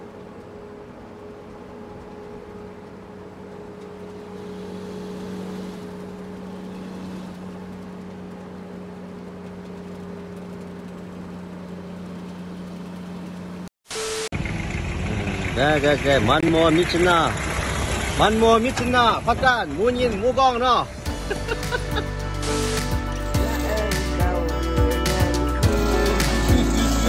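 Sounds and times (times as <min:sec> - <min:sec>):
vehicle engine idling: 0:00.0 - 0:13.7, 0:14.4 - 0:27.0.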